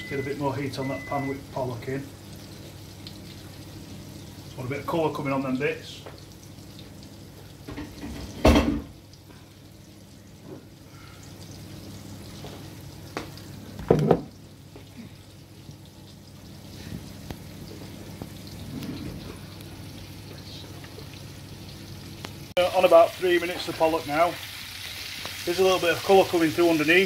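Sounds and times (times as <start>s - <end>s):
food frying in pans: 0.0s - 27.0s.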